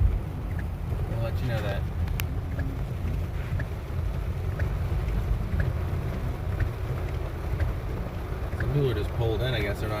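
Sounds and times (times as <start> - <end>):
car and road rumble: 0.0 - 10.0
faint ticking: 0.0 - 10.0
heavy rain noise: 0.0 - 10.0.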